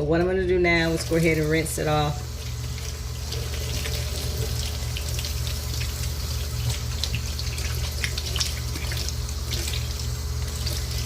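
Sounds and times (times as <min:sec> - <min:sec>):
steady low hum: 0:00.0 - 0:11.0
water running from tap: 0:00.7 - 0:11.0.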